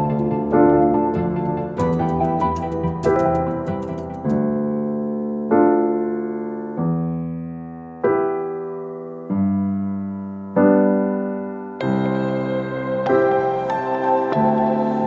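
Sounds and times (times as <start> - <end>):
slow electric piano chords: 0.0 - 15.0.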